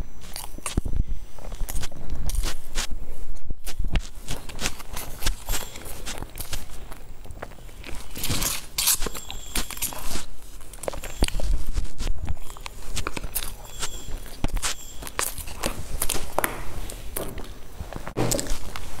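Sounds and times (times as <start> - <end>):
chewing with wet mouth clicks: 0.2 - 3.0, 3.6 - 17.4.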